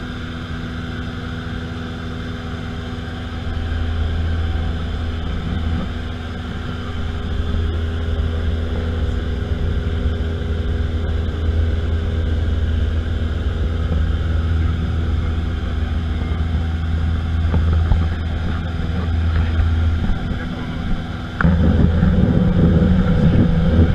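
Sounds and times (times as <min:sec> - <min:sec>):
airplane engine droning: 0:00.0 - 0:23.9.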